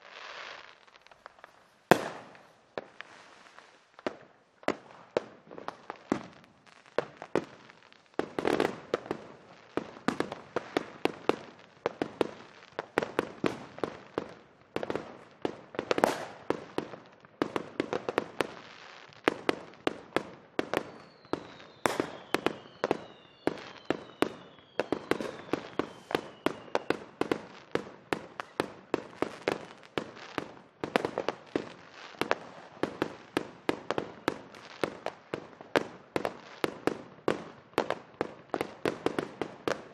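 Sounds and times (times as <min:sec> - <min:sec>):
fireworks bangs and pops: 0:00.0 - 0:39.9
whistling fireworks: 0:00.0 - 0:39.9.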